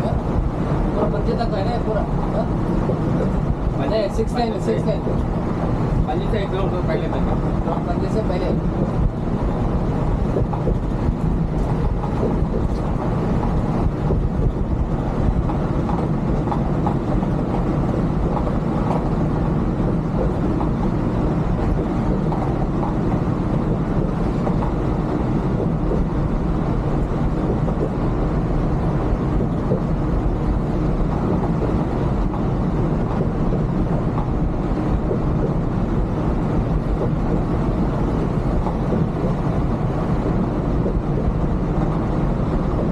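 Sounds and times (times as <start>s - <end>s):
diesel engine drone: 0.0s - 42.9s
road and tyre noise: 0.0s - 42.9s.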